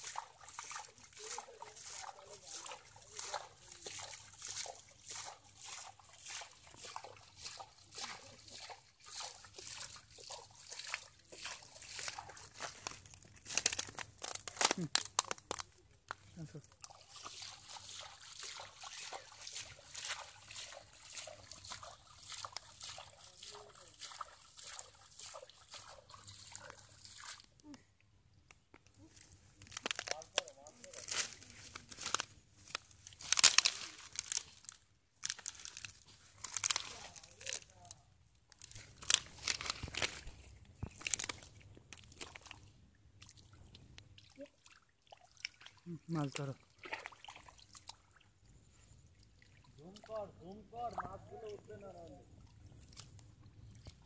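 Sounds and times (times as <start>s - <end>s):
hands splashing in muddy water: 0.0s - 27.6s, 29.1s - 38.0s, 38.6s - 48.2s.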